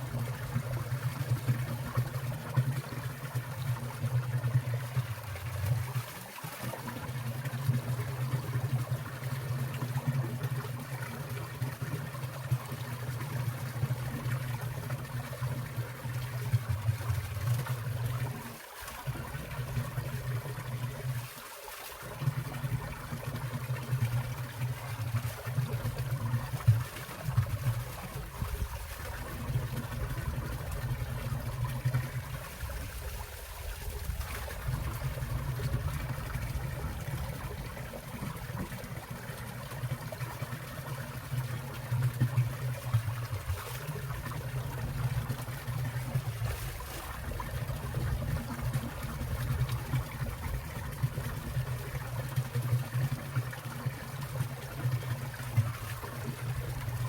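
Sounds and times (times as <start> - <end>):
stream water trickling and splashing: 0.0 - 57.0.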